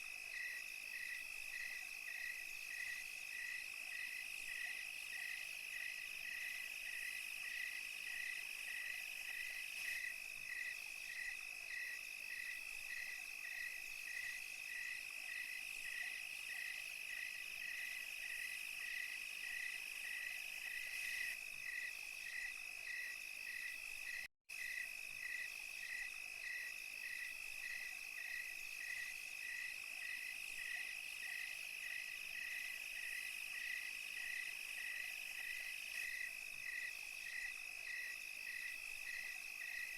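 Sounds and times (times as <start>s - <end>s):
insect chirping in pulses: 0.0s - 39.9s
insects trilling: 0.0s - 39.9s.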